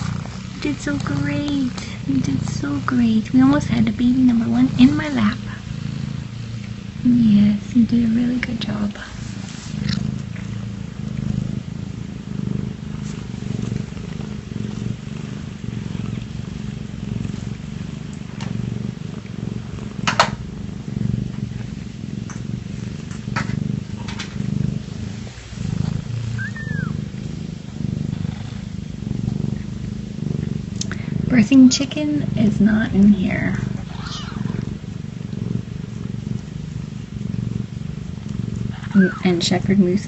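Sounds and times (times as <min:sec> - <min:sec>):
cat purring: 0:00.0 - 0:40.0.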